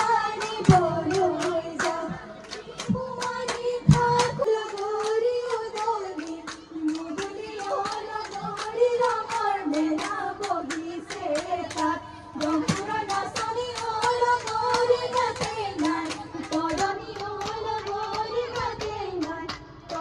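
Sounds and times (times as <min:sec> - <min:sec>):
sharp hand claps: 0:00.0 - 0:20.0
women singing folk song: 0:00.0 - 0:20.0.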